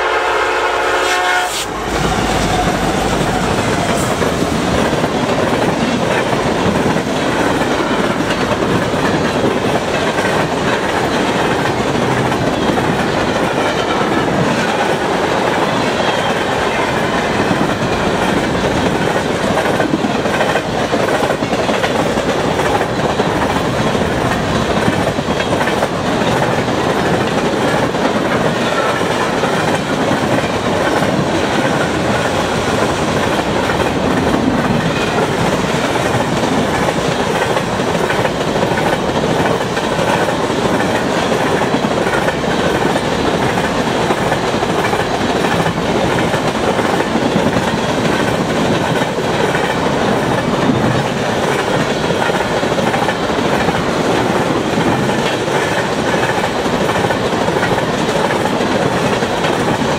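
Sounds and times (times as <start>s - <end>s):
freight train wheels rolling on rails: 0.0s - 59.9s.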